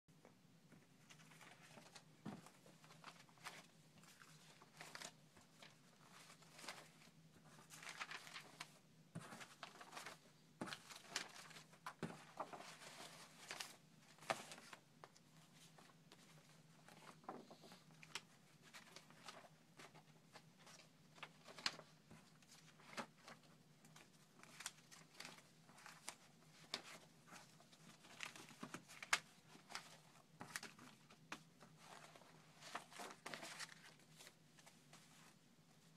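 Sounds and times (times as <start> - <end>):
paper rustling: 1.0 - 35.9.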